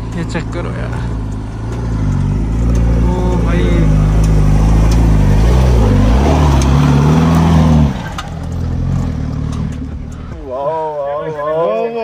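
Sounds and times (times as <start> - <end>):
jeep engine revving: 0.0 - 10.5.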